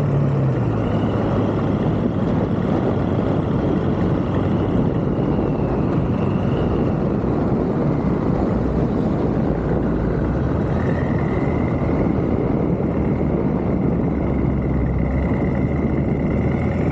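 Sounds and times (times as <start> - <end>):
car exhaust running steadily: 0.0 - 16.9.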